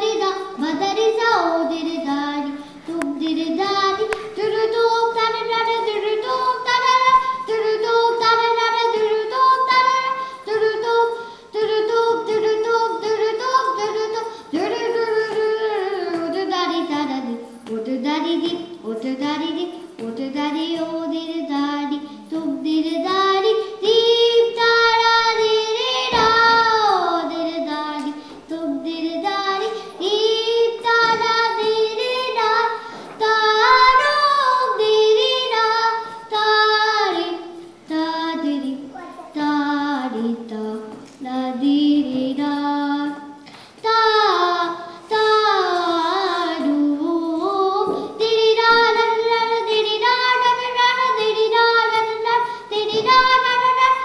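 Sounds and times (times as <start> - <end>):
girl singing: 0.0 - 54.0.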